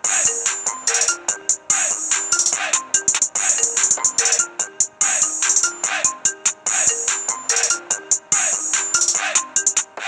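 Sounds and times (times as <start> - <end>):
electronic ringtone tune: 0.0 - 9.9.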